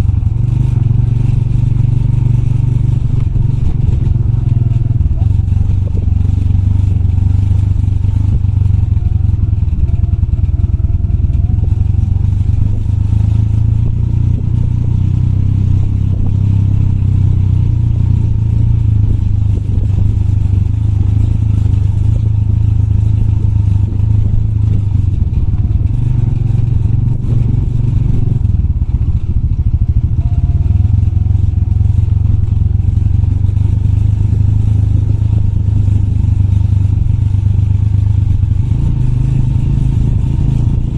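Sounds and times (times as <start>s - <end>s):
motorbike engine running: 0.0s - 40.9s
rattling over rough dirt trail: 0.0s - 40.9s.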